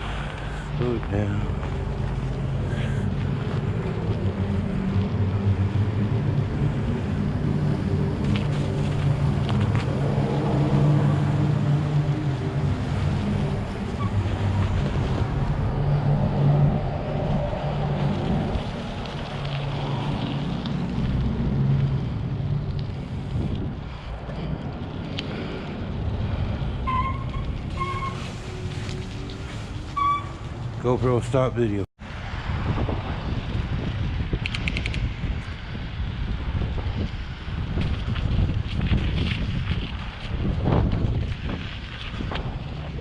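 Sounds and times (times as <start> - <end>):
wind rushing over microphone: 0.0 - 30.9, 32.0 - 43.0
tyres rolling on snow: 0.0 - 32.4, 36.3 - 43.0.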